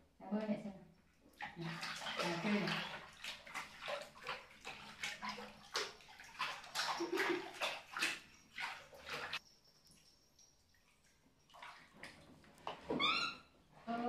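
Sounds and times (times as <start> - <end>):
water splashing in a pool: 1.2 - 13.3.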